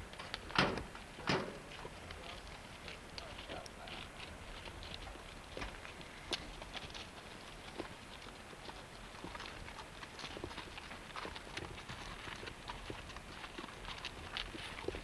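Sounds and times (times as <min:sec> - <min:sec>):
horse hooves clopping: 0:00.0 - 0:15.0.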